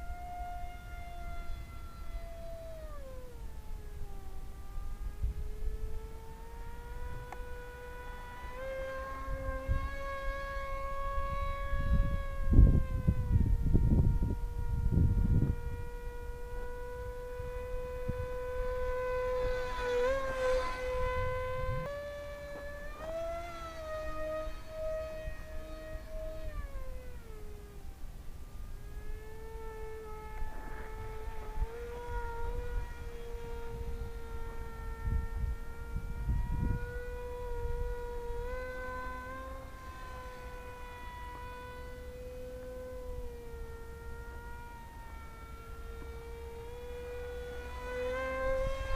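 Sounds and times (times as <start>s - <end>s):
wind buffeting microphone: 0.0s - 28.0s, 28.6s - 48.9s
model plane motor whining: 0.0s - 48.9s.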